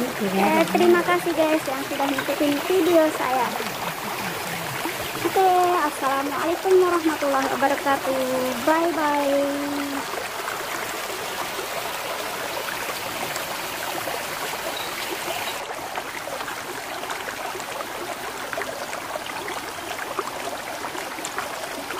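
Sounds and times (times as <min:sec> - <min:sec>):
water pouring into pond: 0:00.0 - 0:21.9.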